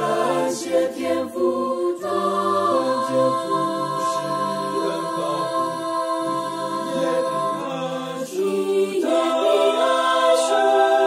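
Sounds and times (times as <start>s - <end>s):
a cappella choir singing a hymn: 0.0s - 11.0s.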